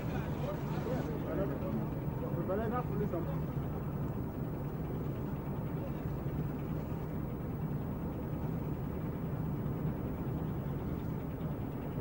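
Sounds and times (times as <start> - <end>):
ship machinery drone: 0.0 - 12.0.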